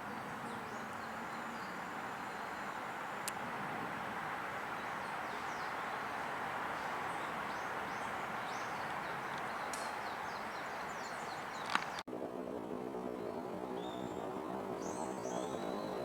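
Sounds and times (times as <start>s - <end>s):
songbirds chirping: 0.0s - 12.1s, 13.2s - 16.0s
outdoor background rush: 0.0s - 16.0s.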